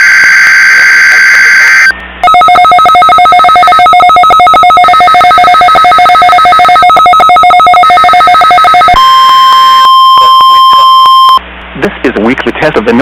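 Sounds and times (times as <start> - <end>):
steady weather radio alarm tone: 0.0 - 11.4
two-pitch trilling alert tone: 0.0 - 11.4.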